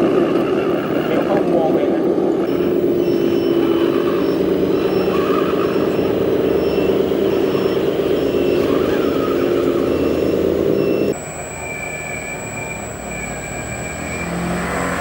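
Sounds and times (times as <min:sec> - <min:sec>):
diesel truck engine running: 0:00.0 - 0:15.0
faint beep: 0:02.5 - 0:15.0.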